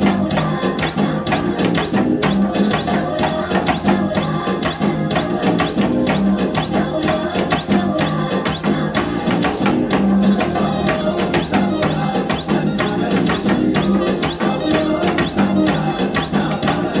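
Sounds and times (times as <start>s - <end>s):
film song playing: 0.0s - 17.0s.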